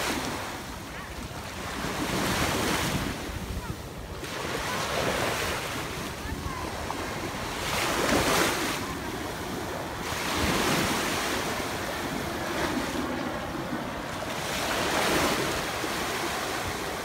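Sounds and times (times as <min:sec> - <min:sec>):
small waves breaking on sand: 0:00.0 - 0:17.0
wind rumbling on microphone: 0:00.0 - 0:17.0.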